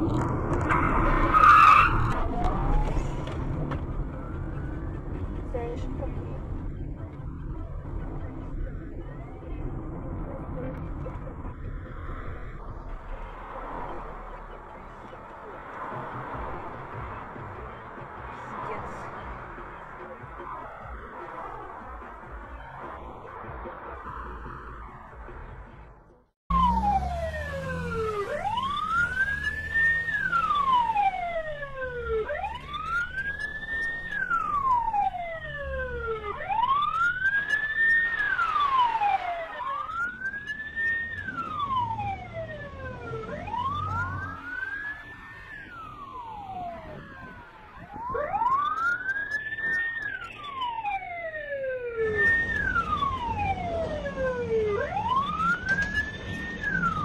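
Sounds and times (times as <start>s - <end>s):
police siren wailing: 0.0s - 25.7s, 26.5s - 57.0s
low traffic rumble: 0.0s - 57.0s.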